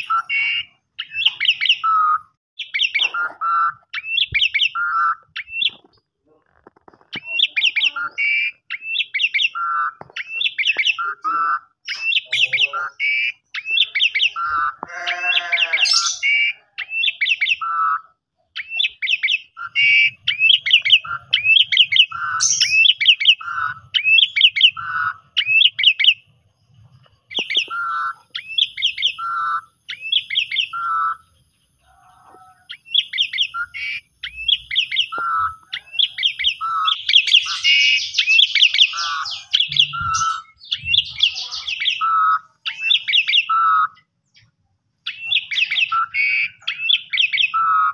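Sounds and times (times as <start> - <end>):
starling singing: 0.0 - 47.9.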